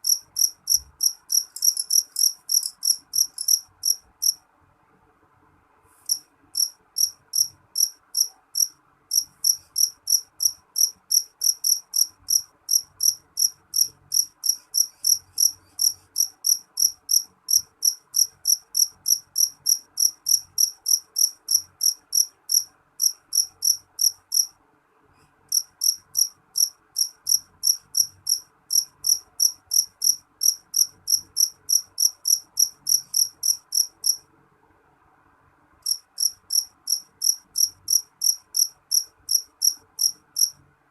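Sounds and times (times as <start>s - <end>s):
cricket chirping: 0.0s - 4.4s, 6.1s - 24.5s, 25.5s - 34.2s, 35.8s - 40.6s.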